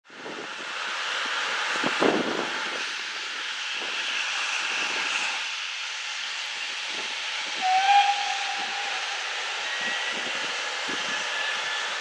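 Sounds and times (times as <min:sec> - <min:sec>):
steam hissing: 0:00.1 - 0:12.0.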